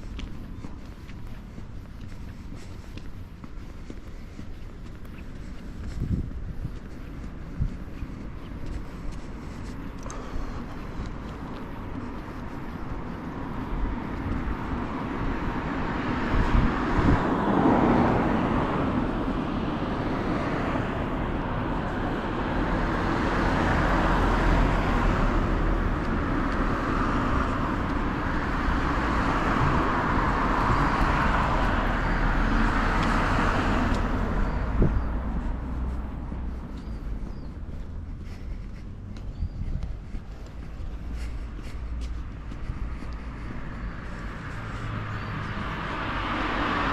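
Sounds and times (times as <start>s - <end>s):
road traffic rushing by: 0.0s - 46.9s.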